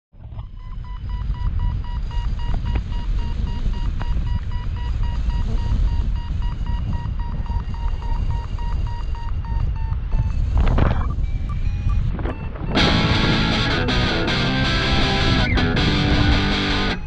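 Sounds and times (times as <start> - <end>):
variometer beeping rapidly: 0.2 - 17.0
wind noise on microphone: 0.2 - 17.0.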